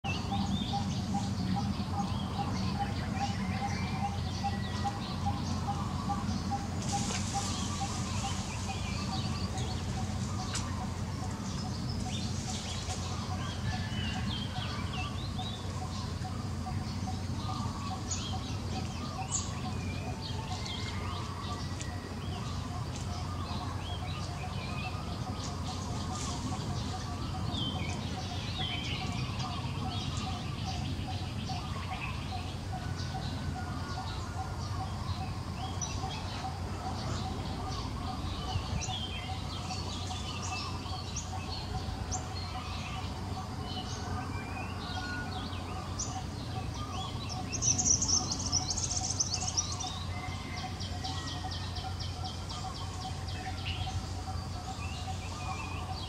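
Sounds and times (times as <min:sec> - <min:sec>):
birds chirping and calling: 0:00.0 - 0:56.0
steady low rumble: 0:00.1 - 0:56.0.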